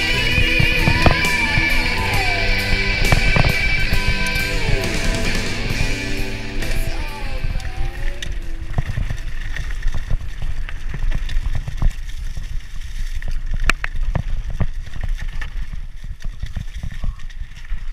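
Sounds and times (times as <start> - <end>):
bike rattling over ground: 0.0 - 17.9.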